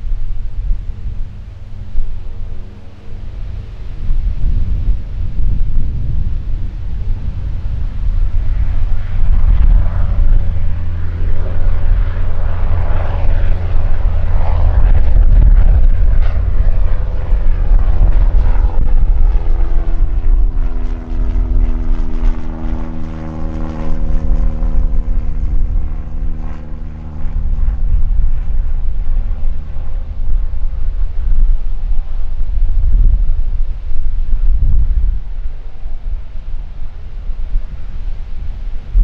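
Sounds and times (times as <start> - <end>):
airplane engines droning: 0.0 - 39.0
heavy low rumble: 0.0 - 39.0
pitched engine hum: 0.0 - 39.0.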